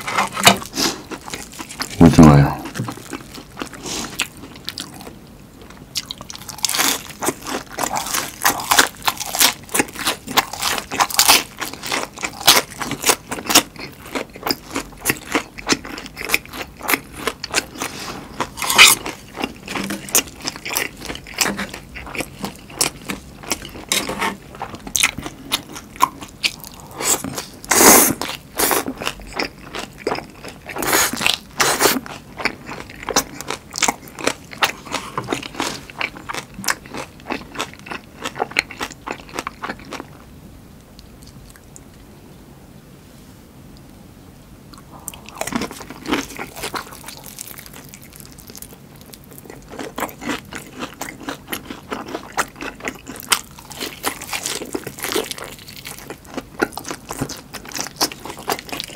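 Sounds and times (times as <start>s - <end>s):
crunching and chewing fried food: 0.0s - 42.1s, 44.7s - 58.9s.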